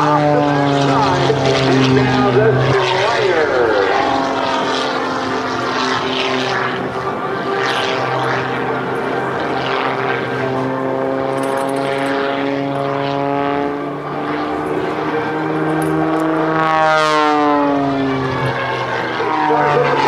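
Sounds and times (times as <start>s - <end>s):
propeller plane engine droning overhead: 0.0s - 20.0s.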